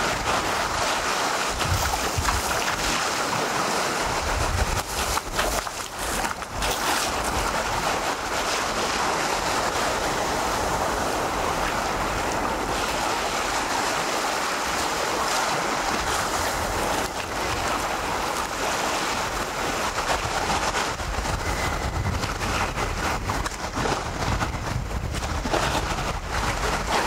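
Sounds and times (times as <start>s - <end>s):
small waves lapping on sand: 0.0s - 27.0s.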